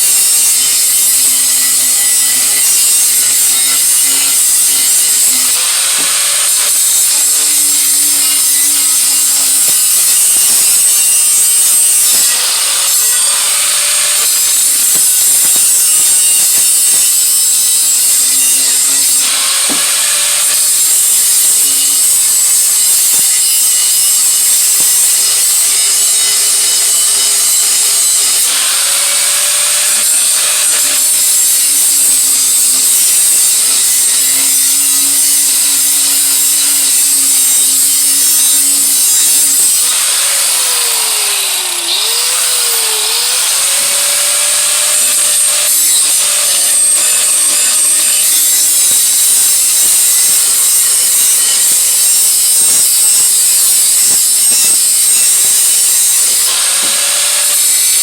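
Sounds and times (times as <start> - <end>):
grinder grinding steel: 0.0 - 58.0.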